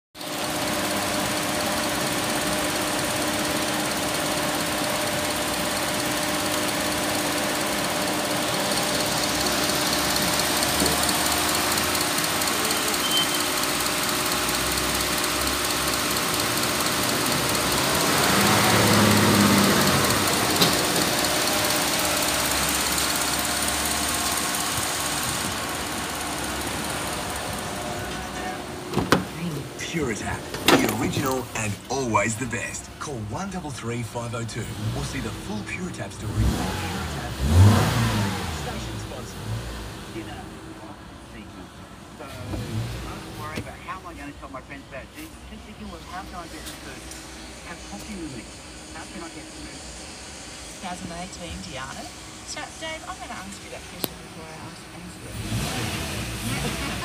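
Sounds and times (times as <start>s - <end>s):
car engine idling: 0.2s - 57.0s.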